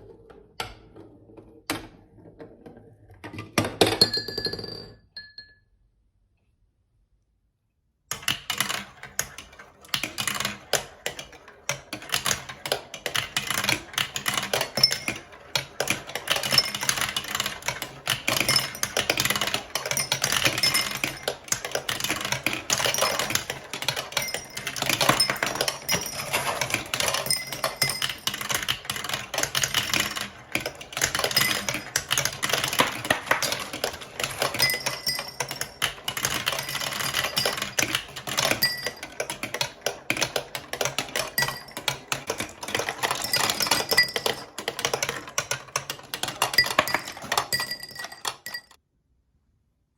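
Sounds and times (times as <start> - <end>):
marbles rattling down plastic track: 8.1 - 48.8.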